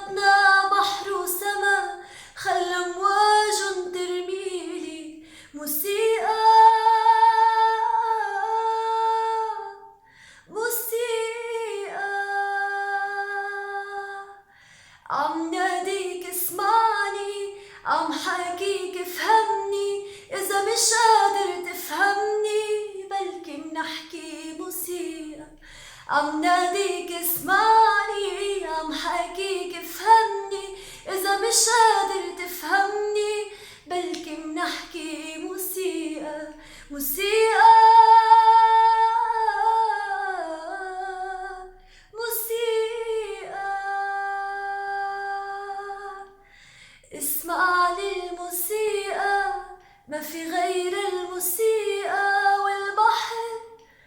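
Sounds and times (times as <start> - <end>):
woman singing unaccompanied: 0.0 - 46.4, 47.1 - 53.8.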